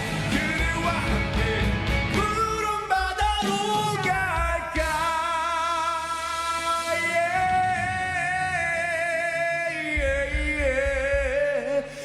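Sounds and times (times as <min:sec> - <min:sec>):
live band playing: 0:00.0 - 0:12.0
singer with vibrato: 0:00.0 - 0:12.0.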